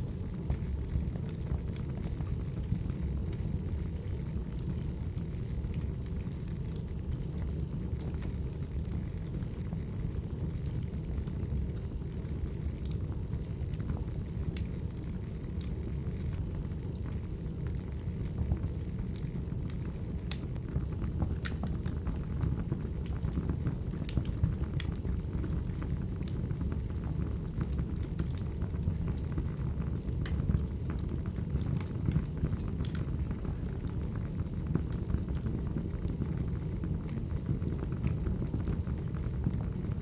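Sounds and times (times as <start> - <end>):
fire crackling and popping: 0.0 - 40.0
fire rumbling: 0.0 - 40.0.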